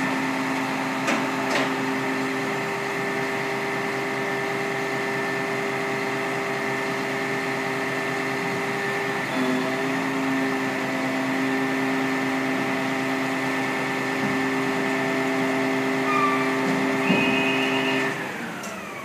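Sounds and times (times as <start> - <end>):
engine and hydraulic pump whine: 0.0 - 19.0.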